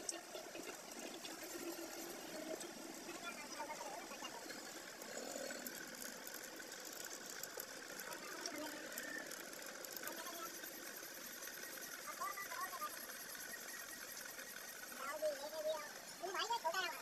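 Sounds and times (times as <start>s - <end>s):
boring machine running: 0.0s - 17.0s.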